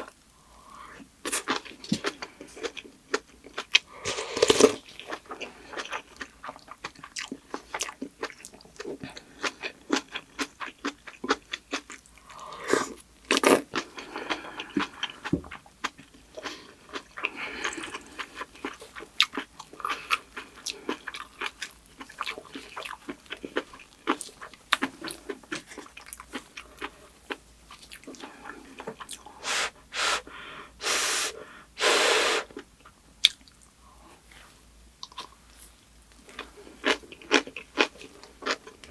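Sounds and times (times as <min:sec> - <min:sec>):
close chewing and crunching: 0:01.3 - 0:29.4, 0:32.6 - 0:38.9.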